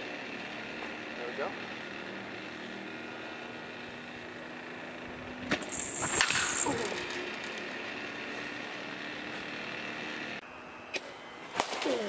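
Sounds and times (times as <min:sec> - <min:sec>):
steady outdoor hum: 0:00.0 - 0:12.0.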